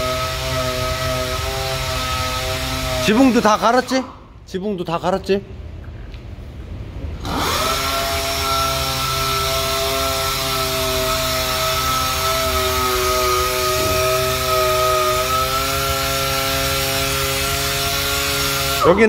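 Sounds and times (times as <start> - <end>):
power sander whining: 0.0 - 3.8, 7.2 - 18.9.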